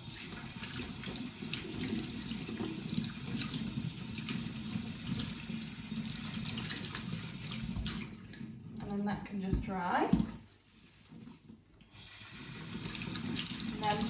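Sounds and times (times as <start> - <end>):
tap water splashing on plastic: 0.0 - 14.0.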